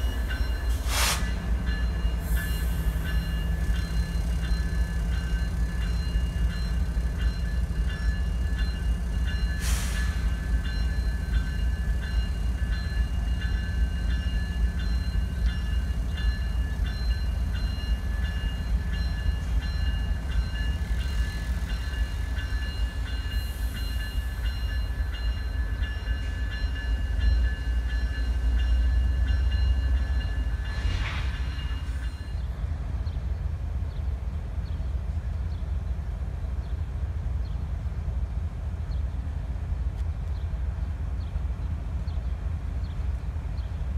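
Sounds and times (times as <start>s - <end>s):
diesel locomotive rumbling: 0.0s - 43.9s.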